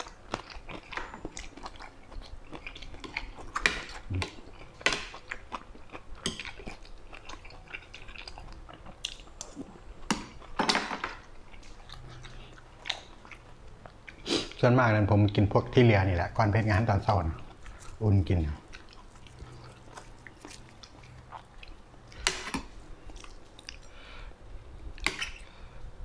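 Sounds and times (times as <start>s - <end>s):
wet chewing: 0.0s - 10.6s, 11.2s - 15.4s, 16.5s - 24.1s.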